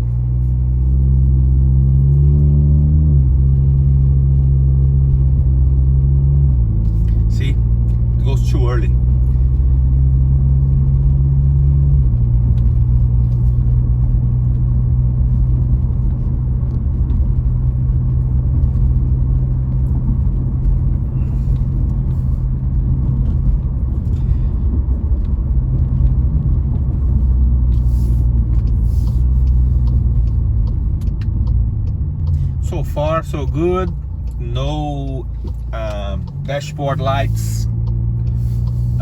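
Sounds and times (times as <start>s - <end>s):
car engine droning in cabin: 0.0s - 39.0s.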